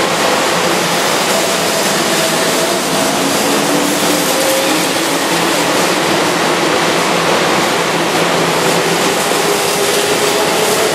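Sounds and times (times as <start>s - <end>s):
train wheels rushing on rail: 0.0s - 10.9s.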